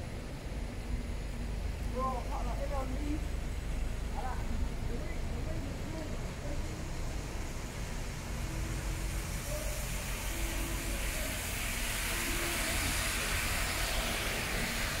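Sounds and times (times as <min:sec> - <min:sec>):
buses and cars driving by: 0:00.0 - 0:15.0
tyres hissing on wet asphalt: 0:01.8 - 0:15.0.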